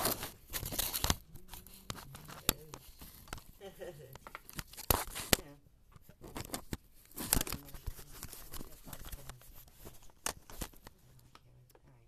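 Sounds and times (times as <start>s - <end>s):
clicks knocks and scraping of parts: 0.0s - 11.0s.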